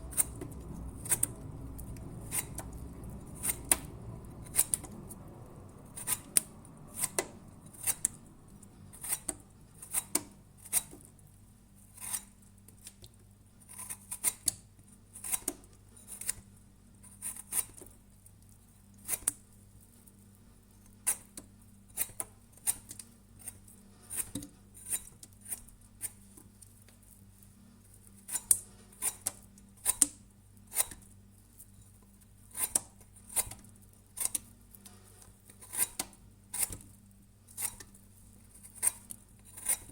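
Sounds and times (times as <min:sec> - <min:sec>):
blade scraping fruit skin: 0:00.0 - 0:11.2, 0:11.8 - 0:13.0, 0:13.6 - 0:18.0, 0:19.0 - 0:19.4, 0:20.9 - 0:26.5, 0:28.2 - 0:31.2, 0:31.9 - 0:39.9.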